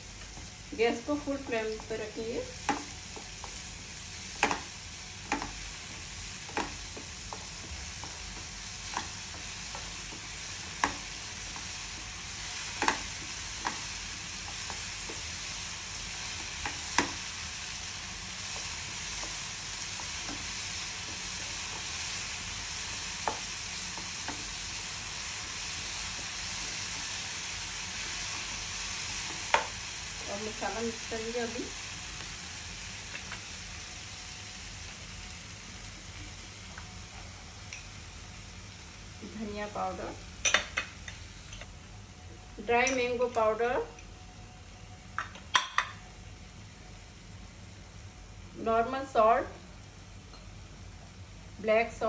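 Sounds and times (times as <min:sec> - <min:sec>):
vegetables sizzling in a frying pan: 0:00.0 - 0:52.0.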